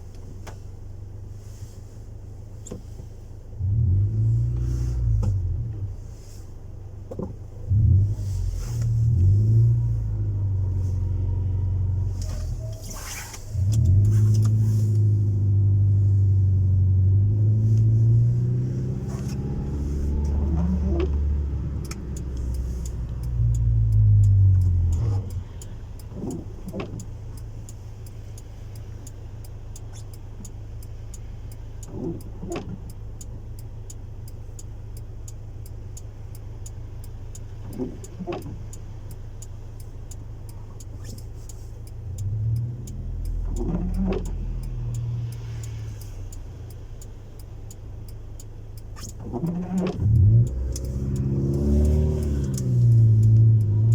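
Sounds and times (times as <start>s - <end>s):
car engine revving and idling: 0.0s - 53.9s.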